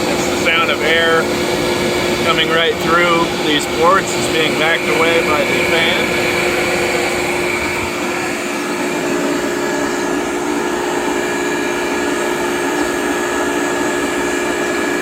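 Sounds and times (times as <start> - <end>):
electric motor and fan humming: 0.0 - 15.0.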